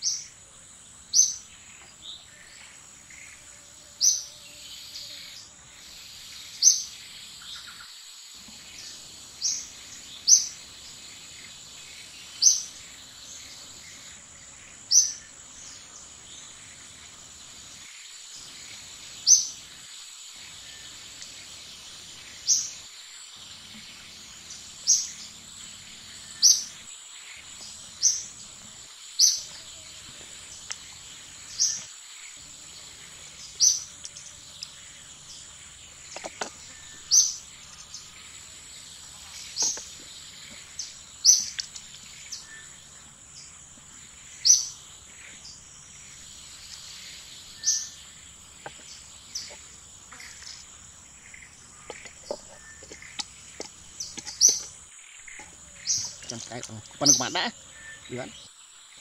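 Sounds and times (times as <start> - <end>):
bird chirping: 8.5 - 59.0.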